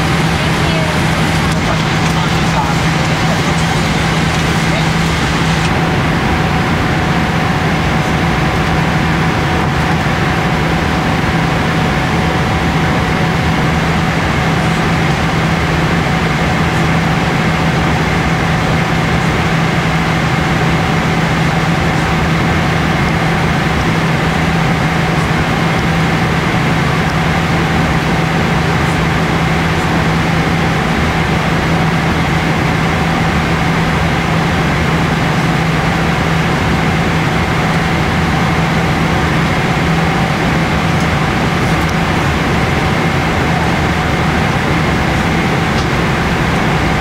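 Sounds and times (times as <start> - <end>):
airplane cabin air rush and engine drone: 0.0 - 47.0
constant low hum: 0.0 - 47.0.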